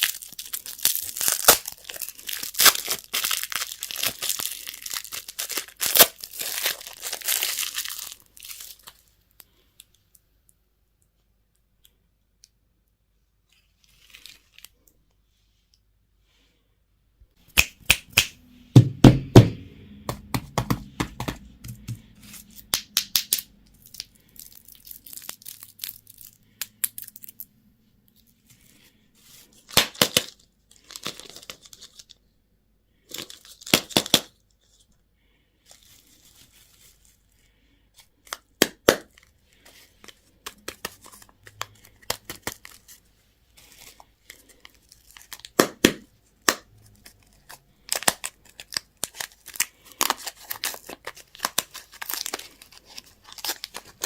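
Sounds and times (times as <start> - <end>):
candy wrappers crinkling: 0.0 - 10.2, 13.5 - 15.0, 20.6 - 32.2, 33.0 - 34.9, 35.6 - 54.0.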